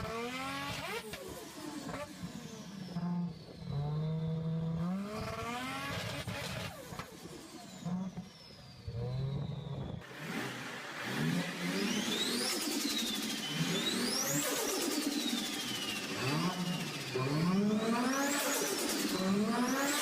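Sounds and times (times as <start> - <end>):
car engine revving and idling: 0.0 - 8.3, 8.9 - 20.0.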